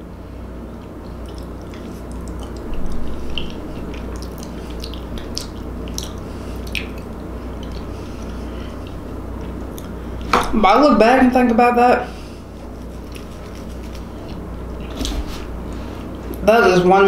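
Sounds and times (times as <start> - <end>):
person chewing food: 0.7 - 10.3, 12.2 - 16.4.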